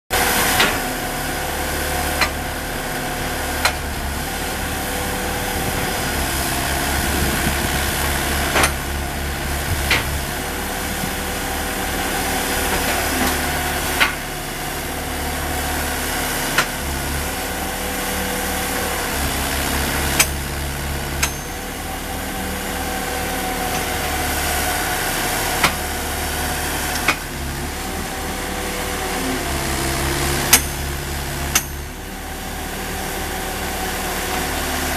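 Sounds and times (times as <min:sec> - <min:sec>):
hydraulic power unit engine running: 0:00.1 - 0:34.9.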